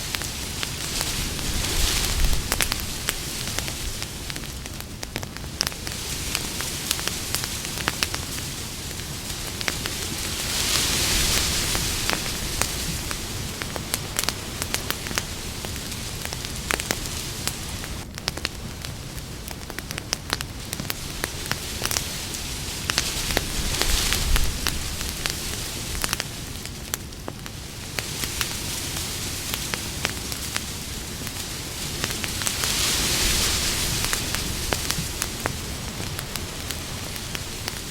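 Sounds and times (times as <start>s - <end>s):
campfire crackling and hissing: 0.0s - 37.9s.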